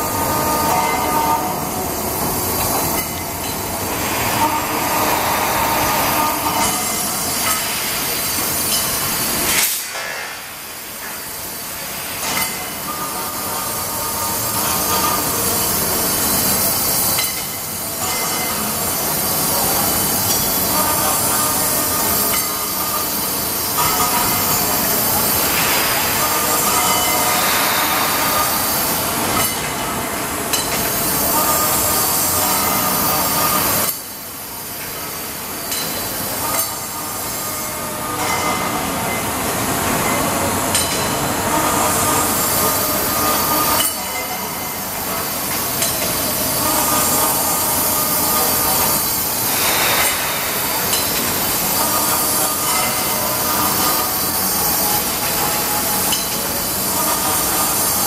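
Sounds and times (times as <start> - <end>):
machine clatter with steady tones: 0.0 - 58.0.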